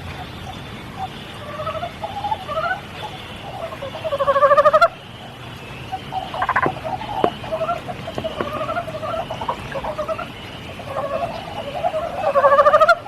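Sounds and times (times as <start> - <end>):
frogs croaking: 0.0 - 13.0
rain hiss: 0.0 - 13.0
water drips: 0.0 - 13.0
frog pulsed trill: 0.4 - 13.0.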